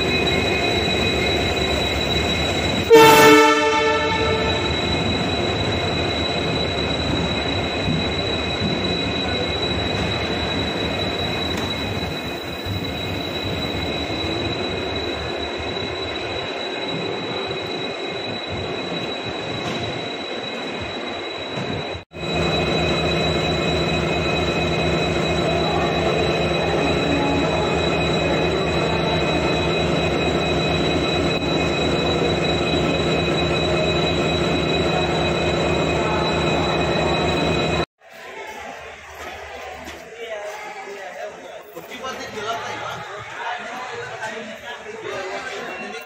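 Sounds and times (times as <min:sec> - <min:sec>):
passenger train noise: 0:00.0 - 0:46.0.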